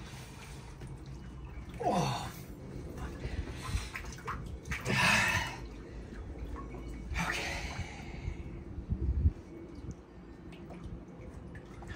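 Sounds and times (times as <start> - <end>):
water sloshing: 0.0 - 11.9.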